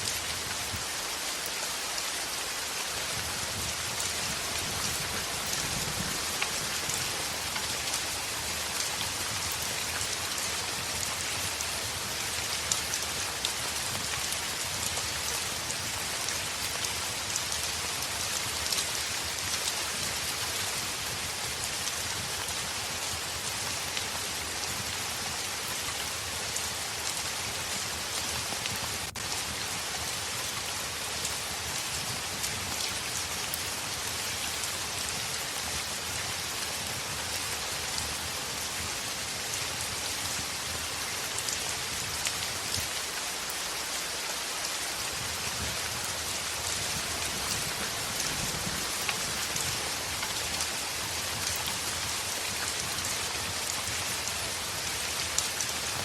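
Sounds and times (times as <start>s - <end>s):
heavy rain hissing: 0.0s - 25.6s, 26.2s - 56.0s.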